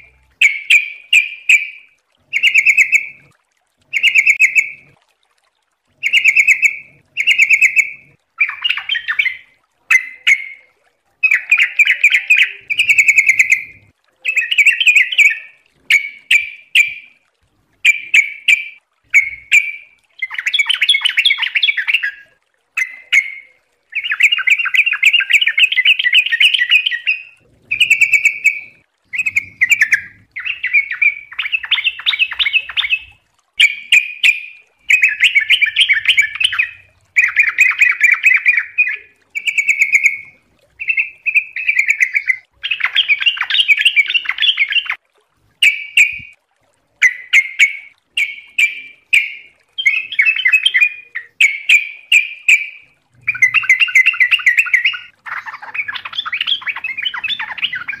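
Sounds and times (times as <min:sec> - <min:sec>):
bulbul chattering song: 0:00.0 - 0:05.0, 0:06.0 - 0:45.0, 0:45.6 - 0:46.4, 0:47.0 - 0:58.0.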